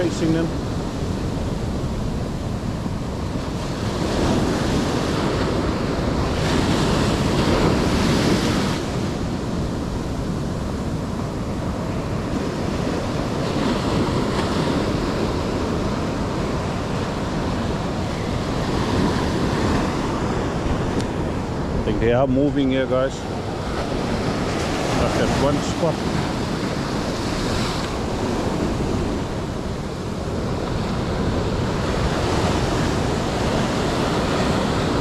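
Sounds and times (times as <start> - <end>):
ocean surf washing ashore: 0.0 - 35.0
wind on microphone: 0.0 - 35.0.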